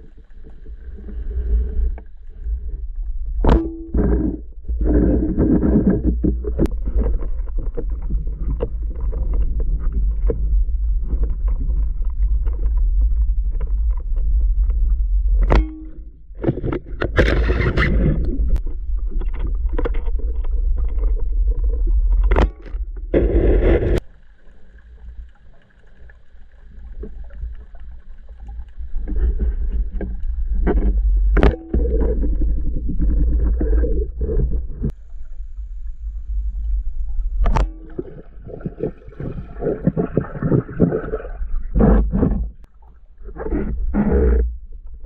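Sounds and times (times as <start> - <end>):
heavy low rumble: 0.0 - 25.6, 26.5 - 45.0
water sloshing and gurgling: 0.0 - 45.0.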